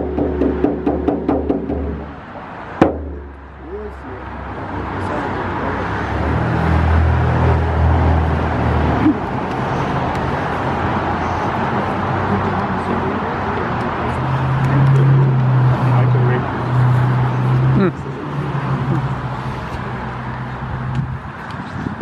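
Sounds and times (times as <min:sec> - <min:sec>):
tyre and road noise: 0:00.0 - 0:22.0
vehicle engine hum: 0:00.0 - 0:22.0.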